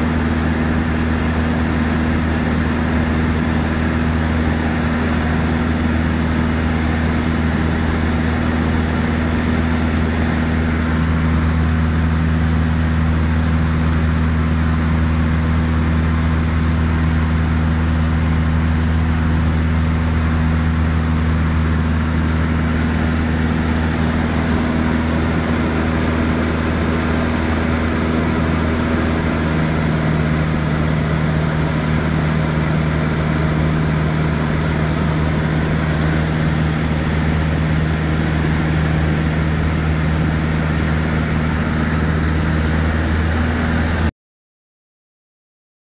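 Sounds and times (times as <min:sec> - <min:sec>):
airplane engine and propeller drone: 0:00.0 - 0:44.1.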